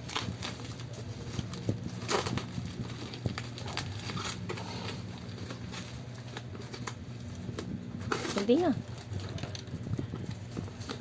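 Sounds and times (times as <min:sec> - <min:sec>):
packaging rustling: 0:00.0 - 0:11.0
steady low hum: 0:00.0 - 0:11.0.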